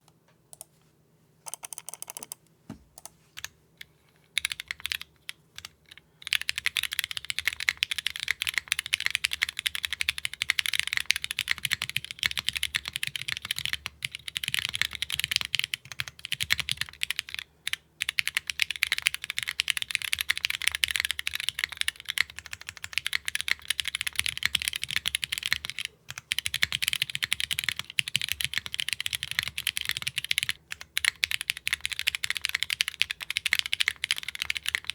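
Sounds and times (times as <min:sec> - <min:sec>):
mechanical keyboard typing: 0:01.5 - 0:02.4, 0:04.4 - 0:17.4, 0:18.0 - 0:34.9.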